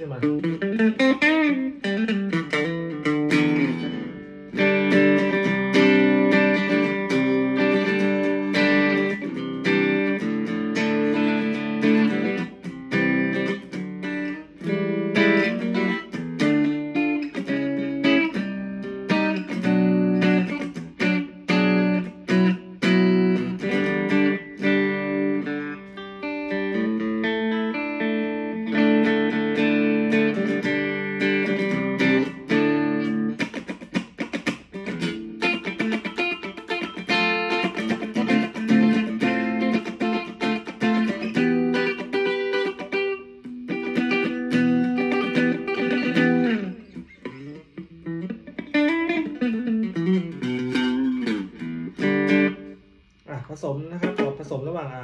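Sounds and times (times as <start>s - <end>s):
electric guitar through an amp: 0.0s - 53.1s.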